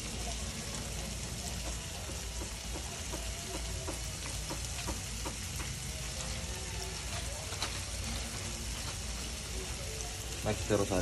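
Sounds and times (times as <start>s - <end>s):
shrimp sizzling in a frying pan: 0.0s - 11.0s.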